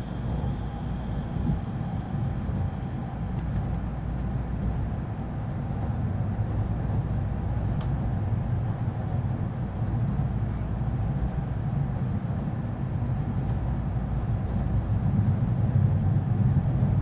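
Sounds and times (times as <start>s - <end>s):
train running rumble inside car: 0.0s - 17.0s.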